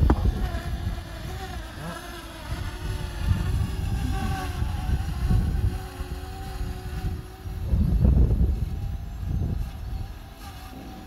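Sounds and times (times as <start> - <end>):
drone propellers whining: 0.0 - 11.0
wind rumble on microphone: 0.0 - 11.0.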